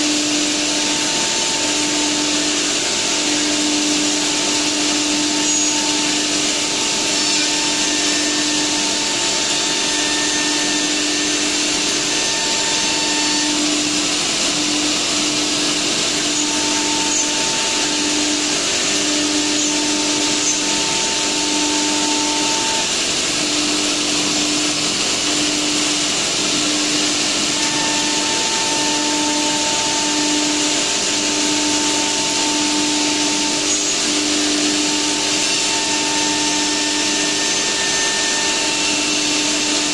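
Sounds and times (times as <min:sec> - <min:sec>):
wood router rush of air: 0:00.0 - 0:39.9.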